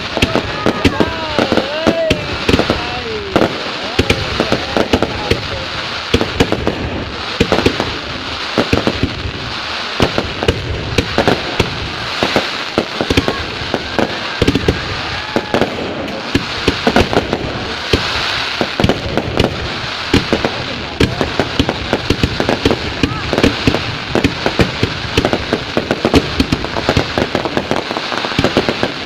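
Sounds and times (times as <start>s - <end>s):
fireworks bangs: 0.0s - 29.0s
steady hiss: 0.0s - 29.0s.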